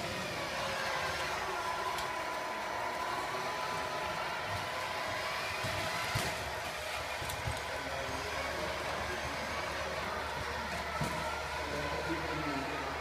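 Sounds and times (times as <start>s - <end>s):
model truck running noise: 0.0s - 13.0s
thin motor whine: 0.0s - 13.0s.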